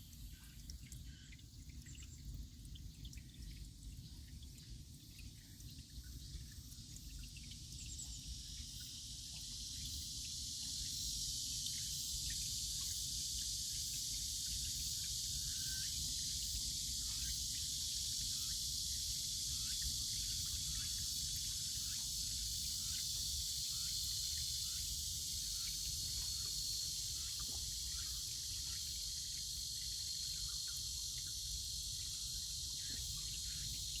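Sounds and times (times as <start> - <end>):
cicadas buzzing: 4.6 - 34.0.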